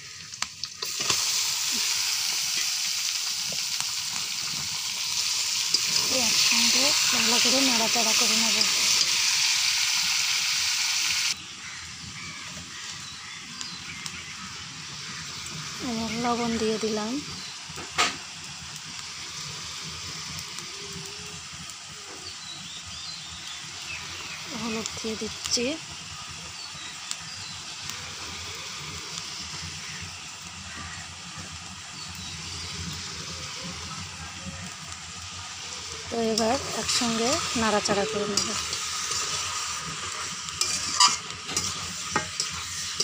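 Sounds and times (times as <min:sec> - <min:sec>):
meat sizzling in hot oil: 0:00.0 - 0:43.0.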